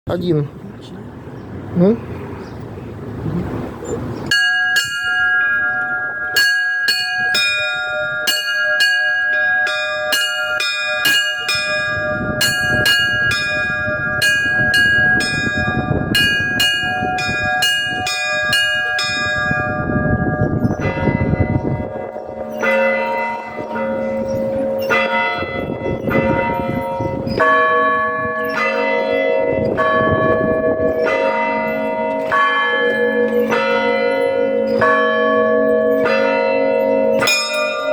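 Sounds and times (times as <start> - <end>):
large low church bells: 4.2 - 37.9
small high-pitched church bells: 4.3 - 37.9.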